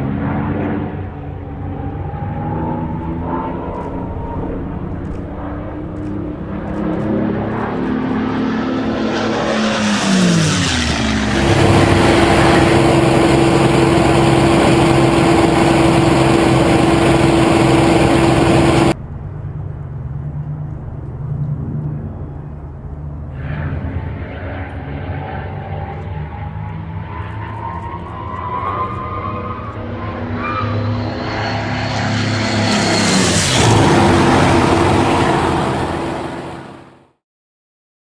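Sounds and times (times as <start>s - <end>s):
propeller plane engines passing: 0.0s - 37.1s
distant engine drone: 0.0s - 37.2s
heavy rushing noise: 0.7s - 20.1s, 22.3s - 37.1s.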